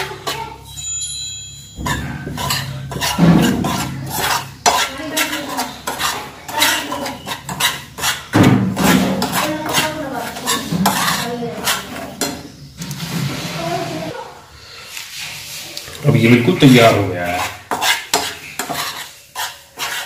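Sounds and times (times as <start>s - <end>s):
metal spoon scraping a frying pan: 0.0s - 1.0s, 1.6s - 14.2s, 15.0s - 20.0s.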